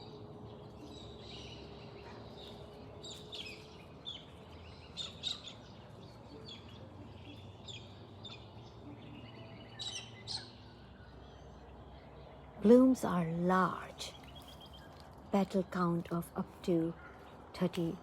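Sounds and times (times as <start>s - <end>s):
faint outdoor background: 0.0s - 18.0s
small birds chirping: 0.0s - 18.0s.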